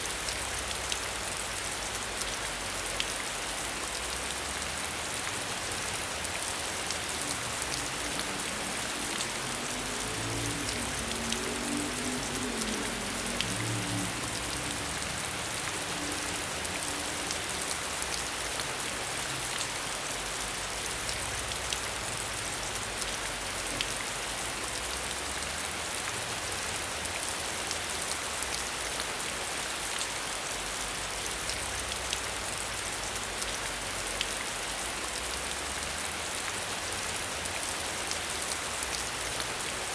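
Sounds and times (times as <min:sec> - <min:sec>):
rain behind a window: 0:00.0 - 0:39.9.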